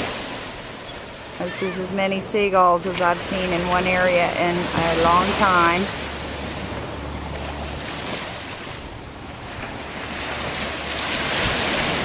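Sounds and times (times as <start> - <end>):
surf washing up beach: 0.0 - 12.0.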